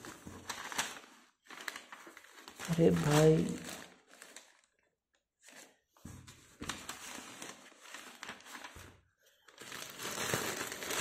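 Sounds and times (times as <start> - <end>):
packaging crinkling: 0.0 - 4.9, 6.6 - 11.0.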